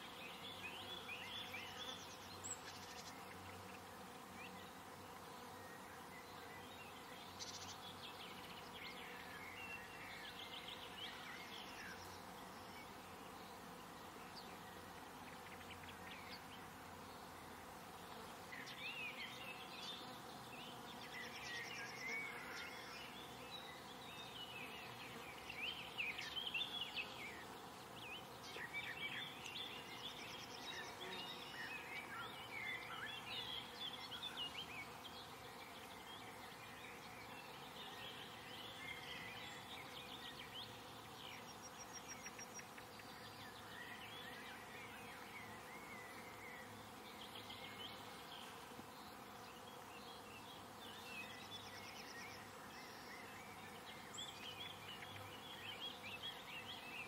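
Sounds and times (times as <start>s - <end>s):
steady insect buzz: 0.0s - 57.0s.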